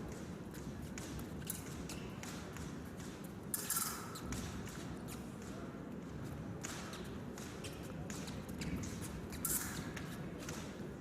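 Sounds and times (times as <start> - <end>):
large hall background noise: 0.0 - 11.0.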